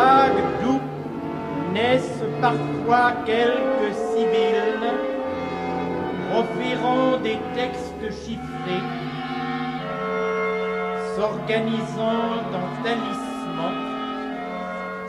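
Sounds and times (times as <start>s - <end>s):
orchestral held notes: 0.0s - 15.0s.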